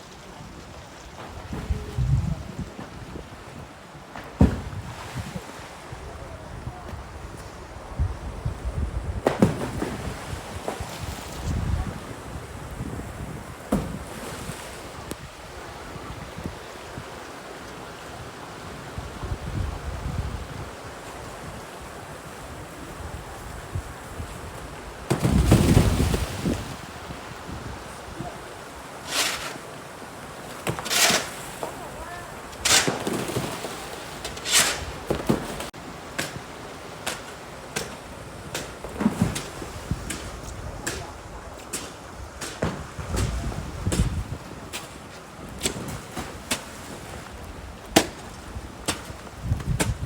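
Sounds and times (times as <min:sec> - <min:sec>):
wind buffeting microphone: 0:00.0 - 0:03.8, 0:04.4 - 0:17.3, 0:18.0 - 0:30.1, 0:30.8 - 0:46.0, 0:47.0 - 0:50.0.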